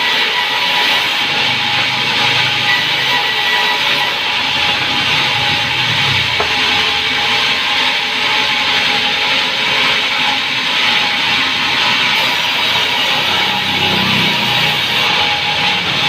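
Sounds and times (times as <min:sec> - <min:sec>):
power saw cutting wood: 0:00.0 - 0:16.0.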